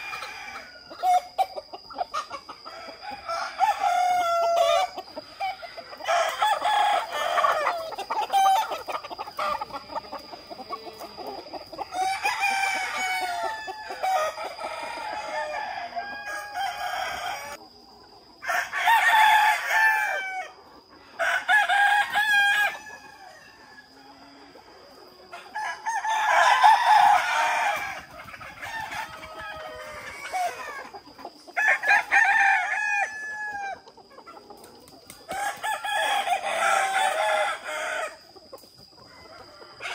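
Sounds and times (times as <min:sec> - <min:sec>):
roosters crowing: 0:00.0 - 0:17.6, 0:18.4 - 0:34.0, 0:35.1 - 0:38.3, 0:39.0 - 0:39.9
chickens clucking: 0:00.0 - 0:39.9.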